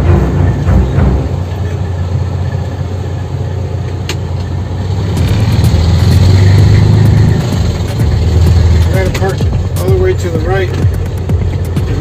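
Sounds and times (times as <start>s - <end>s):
diesel engine rumble: 0.0s - 12.0s.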